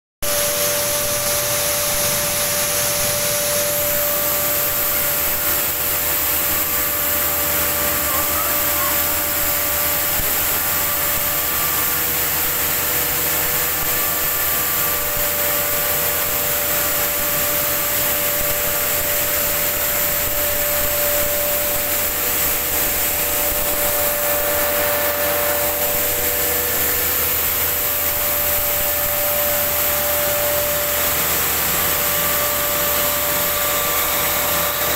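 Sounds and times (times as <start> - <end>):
flour mill machine whirring: 0.2 - 34.9.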